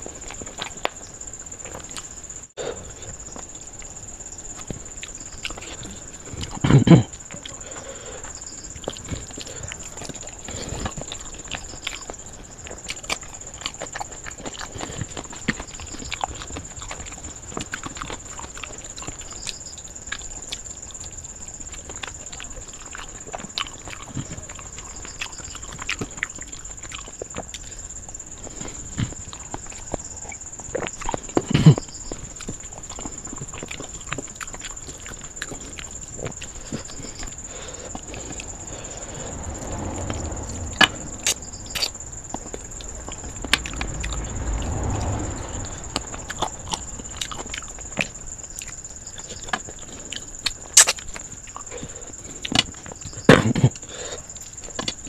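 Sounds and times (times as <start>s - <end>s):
chewing and lip-smacking: 0.0s - 2.1s, 3.0s - 55.0s.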